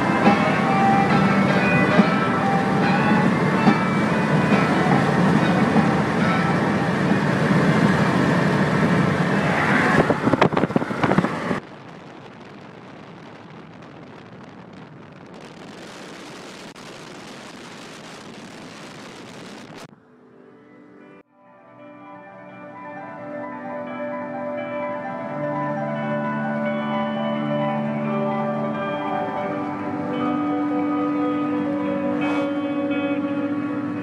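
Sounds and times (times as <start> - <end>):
road and wind noise in car: 0.0 - 21.2, 23.2 - 34.0.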